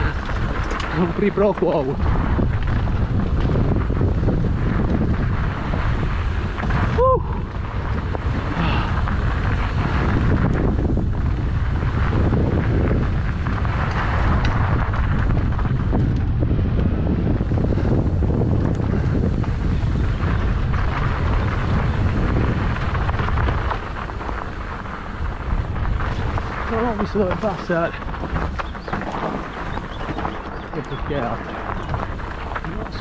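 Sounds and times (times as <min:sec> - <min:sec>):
bike tyres rumbling over dirt: 0:00.0 - 0:33.0
wind buffeting microphone: 0:00.0 - 0:33.0.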